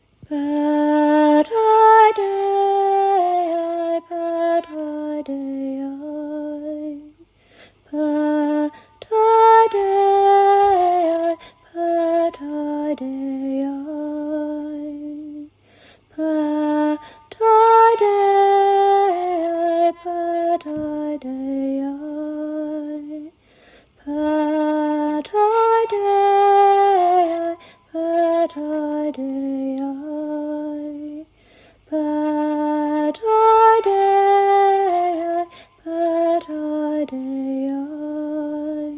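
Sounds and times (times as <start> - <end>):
woman singing wordless chant: 0.2 - 38.9.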